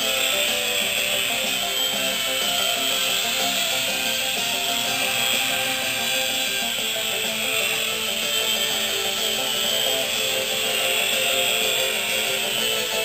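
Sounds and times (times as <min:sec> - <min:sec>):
music playing: 0:00.0 - 0:13.0
toy helicopter rotor whine: 0:00.0 - 0:13.0.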